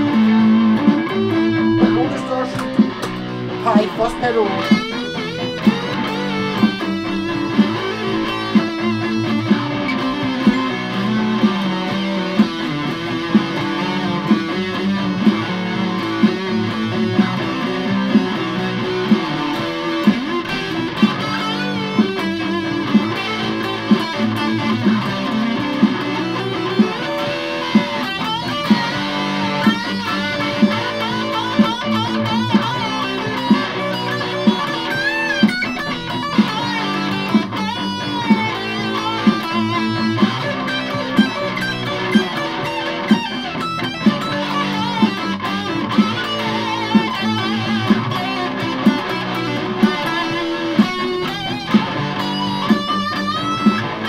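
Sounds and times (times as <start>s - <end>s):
electric guitar riffs: 0.0s - 54.0s
steady beat of sharp accents: 0.0s - 54.0s.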